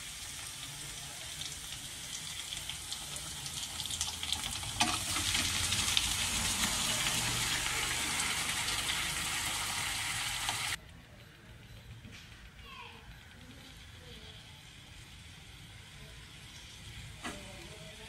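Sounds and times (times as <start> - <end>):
food sizzling in hot oil: 0.0 - 10.8, 13.7 - 18.0.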